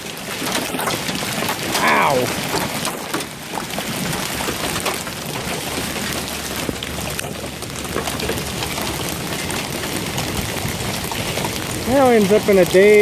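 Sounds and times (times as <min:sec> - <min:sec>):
hail pattering on grass and leaves: 0:00.0 - 0:13.0.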